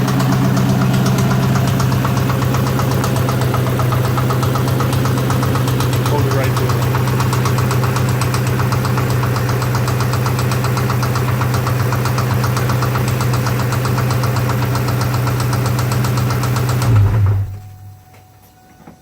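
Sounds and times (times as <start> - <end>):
engine knocking: 0.0 - 17.9
car engine idling: 0.0 - 18.5.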